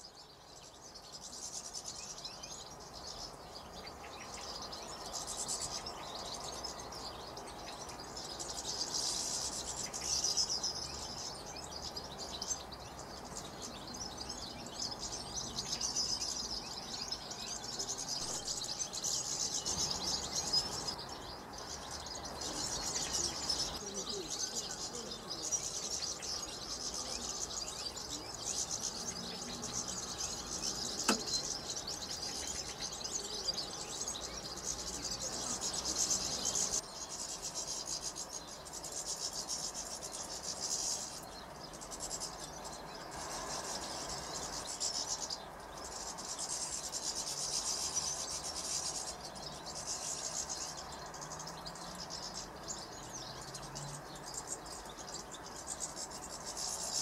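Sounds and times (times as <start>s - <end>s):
flock of birds twittering: 0.0s - 57.0s.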